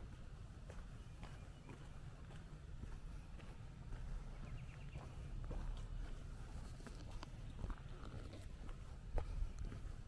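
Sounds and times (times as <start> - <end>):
footsteps on a trail: 0.0 - 10.0.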